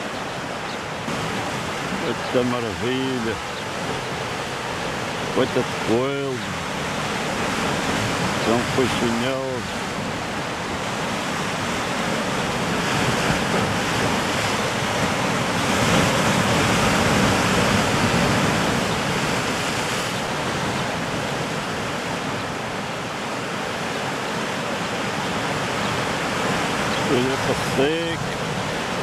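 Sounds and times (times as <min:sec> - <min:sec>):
sea waves breaking on rocks: 0:00.0 - 0:29.0.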